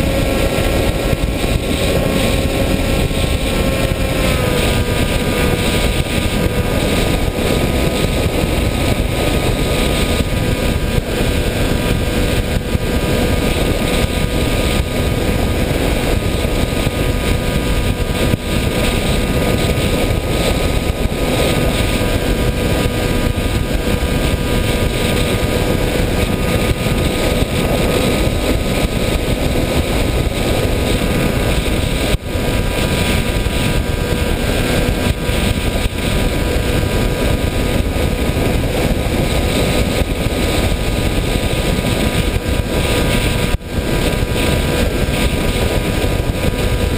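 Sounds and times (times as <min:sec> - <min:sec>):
model aircraft motor droning: 0:00.0 - 0:46.9
wind noise rushing: 0:00.0 - 0:46.9.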